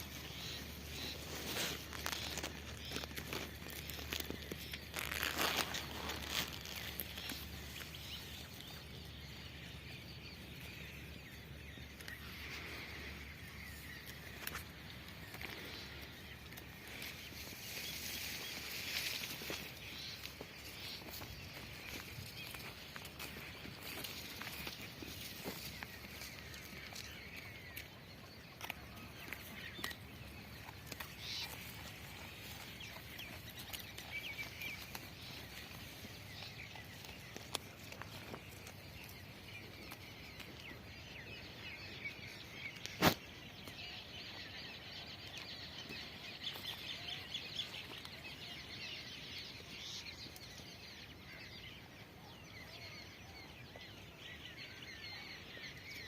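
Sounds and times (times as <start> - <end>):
faint outdoor ambience: 0.0 - 56.0.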